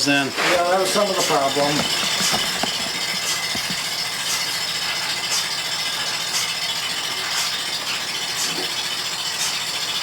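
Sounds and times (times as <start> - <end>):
pulsator rhythmic pulse: 1.4 - 10.0.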